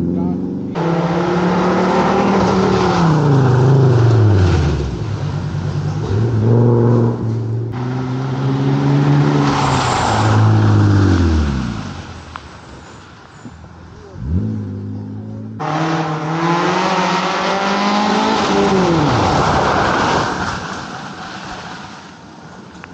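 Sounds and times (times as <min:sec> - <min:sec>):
rally car engine at full throttle: 0:00.0 - 0:22.9.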